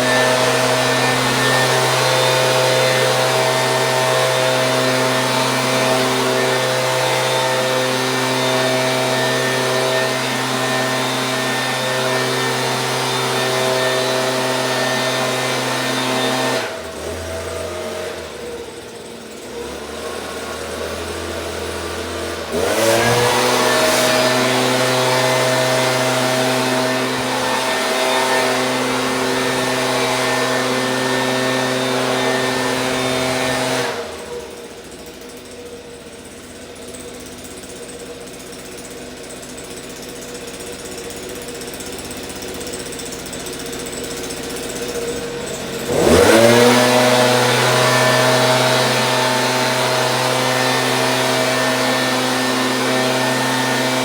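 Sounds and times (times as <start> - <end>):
leaf blower engine revving: 0.0 - 54.0.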